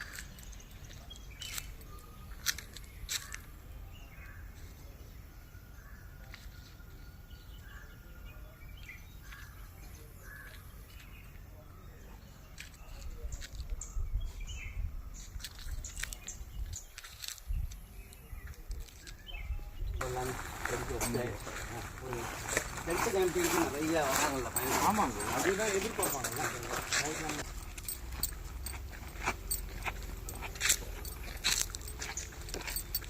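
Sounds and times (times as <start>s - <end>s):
bird chirps and calls: 6.0s - 33.0s.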